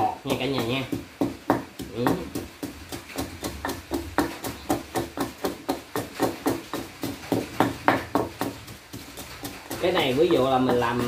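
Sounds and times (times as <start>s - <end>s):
pestle pounding in mortar: 0.0s - 11.0s.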